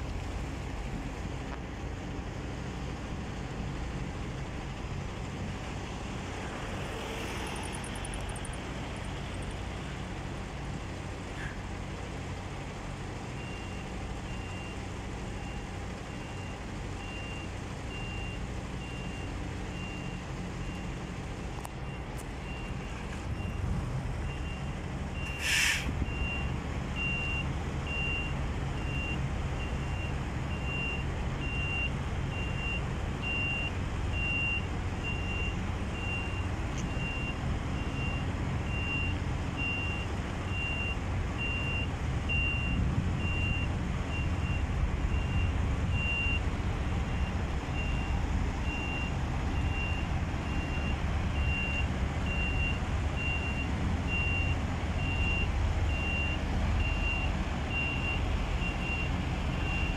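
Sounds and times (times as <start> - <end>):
diesel engine running: 0.0 - 59.9
truck reversing alarm beeping: 6.8 - 9.8, 12.8 - 59.9.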